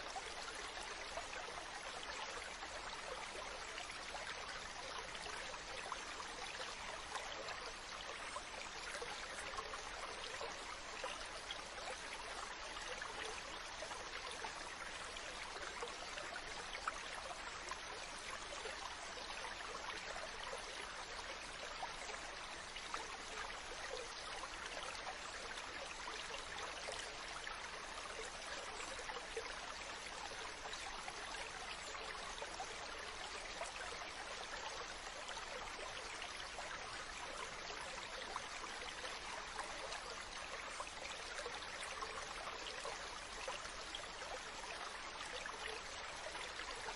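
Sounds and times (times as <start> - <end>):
stream running over rocks: 0.0 - 46.9.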